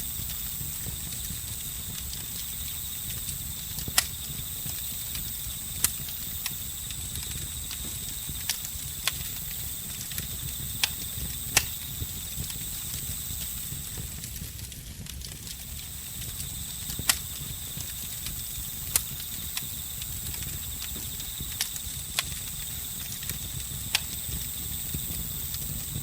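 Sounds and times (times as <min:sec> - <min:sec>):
campfire crackling and popping: 0:00.0 - 0:26.0
crickets trilling: 0:00.0 - 0:26.0.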